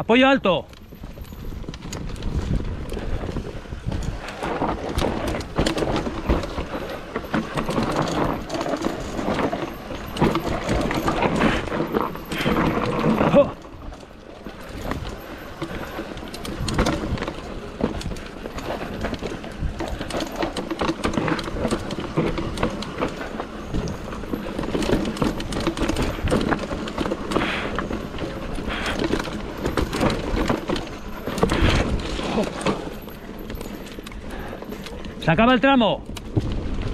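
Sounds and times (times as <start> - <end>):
car running noise: 0.8 - 36.9.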